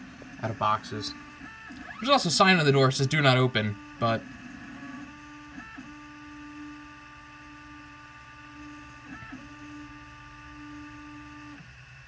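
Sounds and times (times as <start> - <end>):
stepper motors whining: 0.0 - 12.0.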